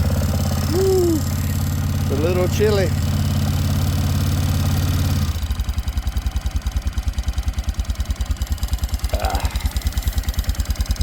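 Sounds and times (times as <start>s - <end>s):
quad bike engine idling: 0.0s - 11.0s.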